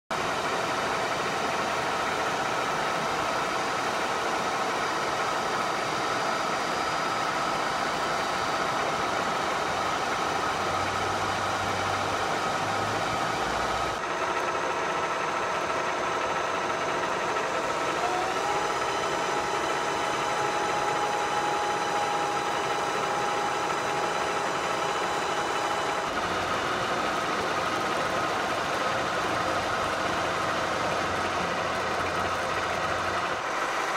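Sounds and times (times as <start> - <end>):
high motor whine: 0.1 - 33.9
electric machine hum: 0.2 - 33.9.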